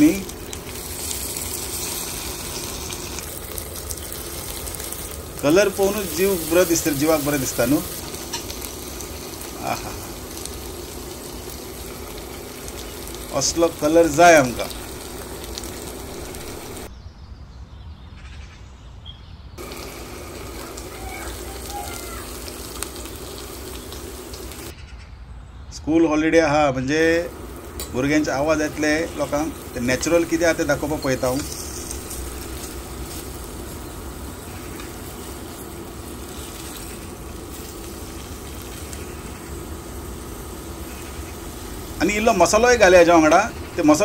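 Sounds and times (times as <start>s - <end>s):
fish sizzling in hot oil: 0.0s - 16.9s, 19.6s - 24.7s, 27.0s - 44.0s.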